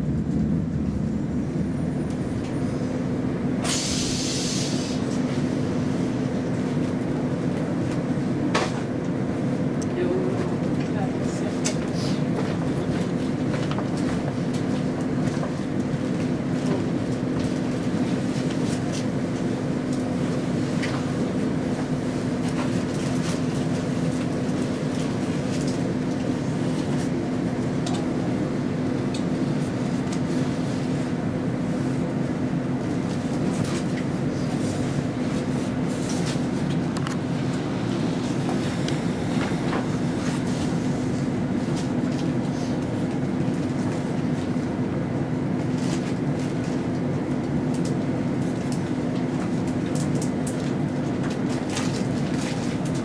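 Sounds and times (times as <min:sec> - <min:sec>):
train equipment humming: 0:00.0 - 0:46.1.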